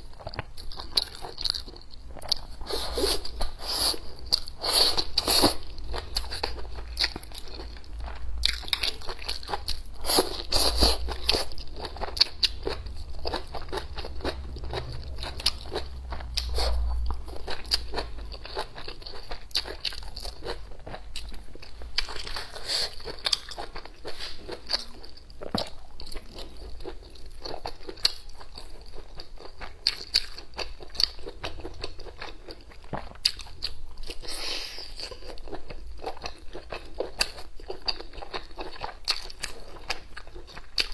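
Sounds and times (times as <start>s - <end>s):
crunchy chewing: 0.2s - 40.9s.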